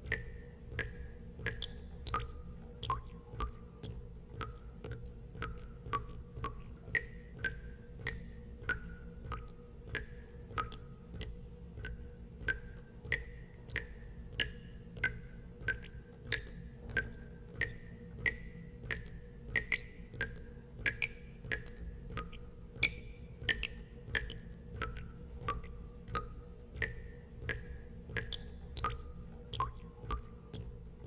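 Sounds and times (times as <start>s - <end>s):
steady low hum: 0.0s - 31.0s
water drops plinking into water: 0.0s - 31.0s.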